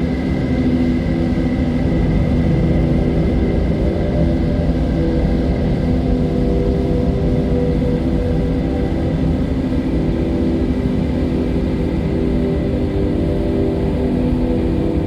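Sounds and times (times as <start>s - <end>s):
ambient drone music: 0.0s - 15.0s
constant low rumble: 0.0s - 15.0s.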